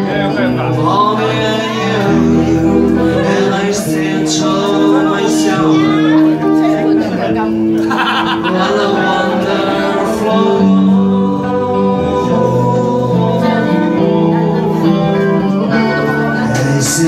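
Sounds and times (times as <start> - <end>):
bass guitar: 0.0 - 17.0
electric guitar: 0.0 - 17.0
man singing: 0.0 - 17.0.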